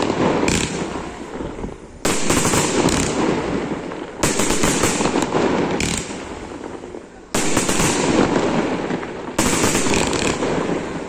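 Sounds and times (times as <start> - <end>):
firework shells bursting with bangs: 0.0 - 11.0.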